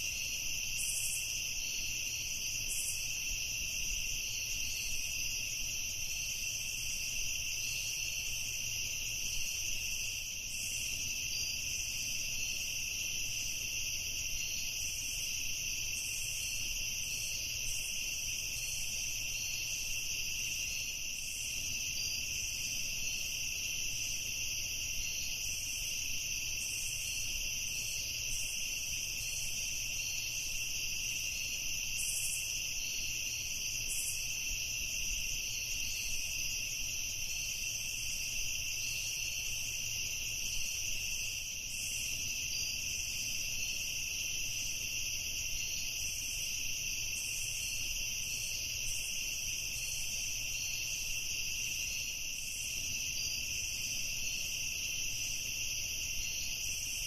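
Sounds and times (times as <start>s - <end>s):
crickets and insects chirring: 0.0s - 57.0s.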